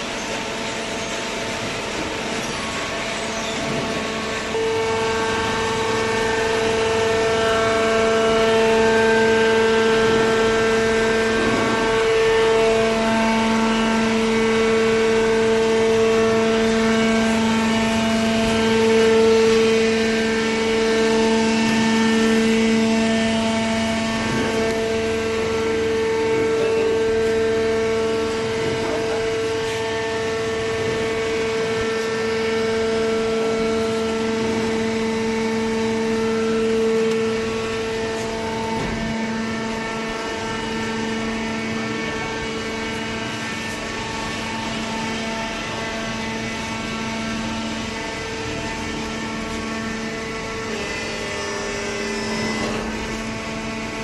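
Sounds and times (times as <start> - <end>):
hydraulic power unit whining: 0.0 - 54.0
lower machine tone: 0.0 - 54.0.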